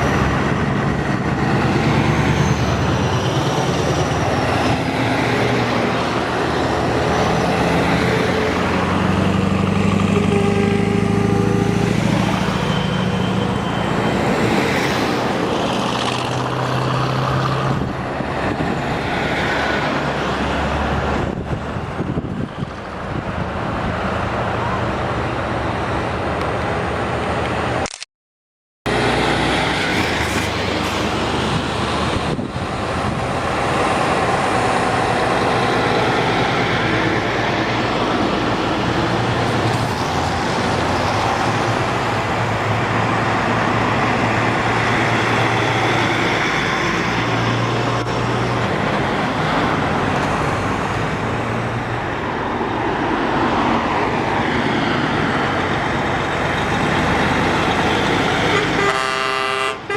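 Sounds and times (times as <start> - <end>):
heavy truck engines: 0.0 - 27.9, 28.9 - 59.9
tyre and road noise: 0.0 - 28.0, 28.9 - 59.9.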